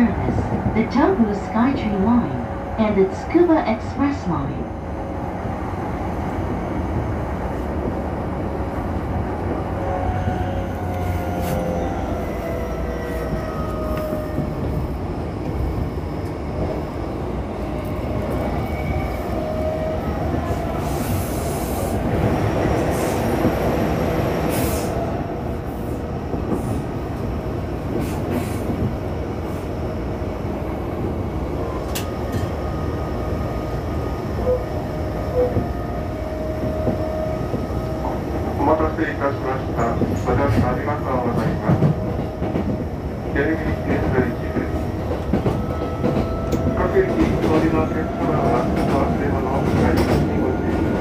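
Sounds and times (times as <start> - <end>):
wheels rumbling on rail: 0.0 - 51.0.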